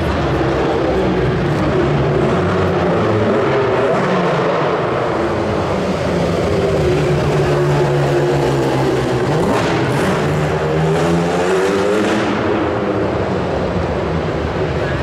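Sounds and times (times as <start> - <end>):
racing car engine revving: 0.0 - 14.5.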